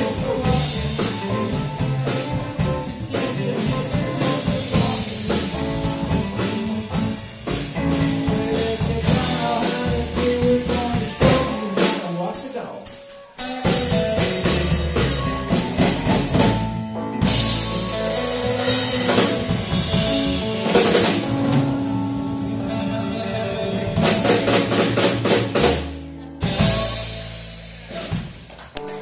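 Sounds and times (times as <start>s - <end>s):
blues band playing: 0.0s - 29.0s.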